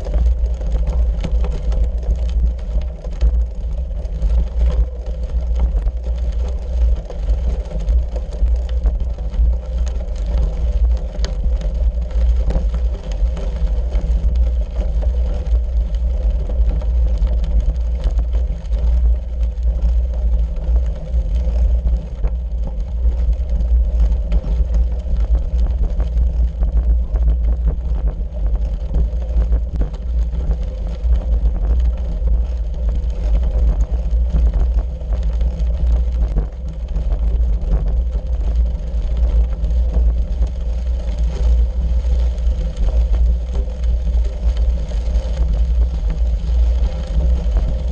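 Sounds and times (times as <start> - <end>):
bicycle tyres rolling on gravel: 0.0 - 47.9.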